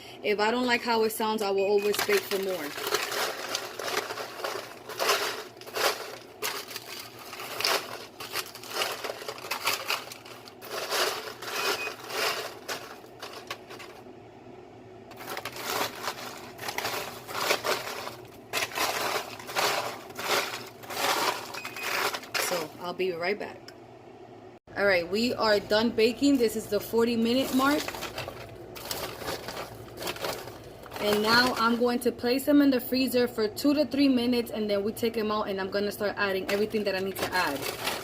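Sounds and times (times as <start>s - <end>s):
popcorn rustling on baking sheet: 0.5s - 14.0s, 15.1s - 23.0s, 25.2s - 32.5s, 35.7s - 38.0s.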